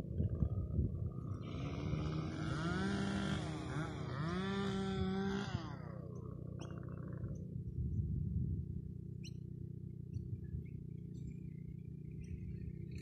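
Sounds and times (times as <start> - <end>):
wind and road noise: 0.0 - 10.8
vehicle engine running: 0.0 - 13.0.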